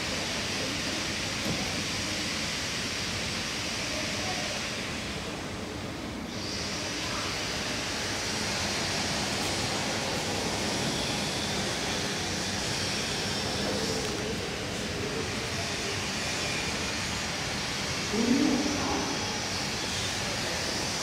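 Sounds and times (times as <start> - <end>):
elevator hiss of air: 0.0 - 21.0.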